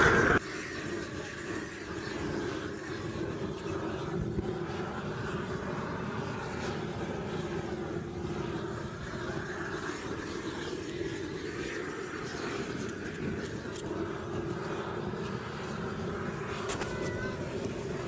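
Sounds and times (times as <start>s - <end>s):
blowtorch flame burning: 0.0s - 18.0s.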